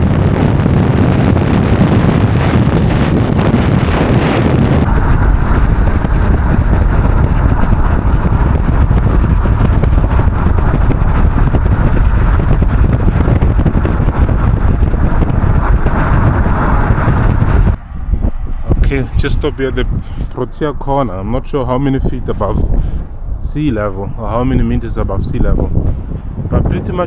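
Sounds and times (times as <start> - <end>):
car road and engine noise: 0.0 - 27.0
wind buffeting on microphone: 0.0 - 27.0.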